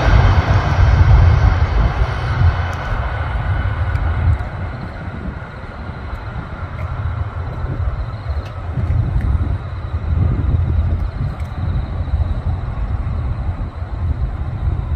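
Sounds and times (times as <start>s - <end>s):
jet engine rush and rumble: 0.0s - 14.9s.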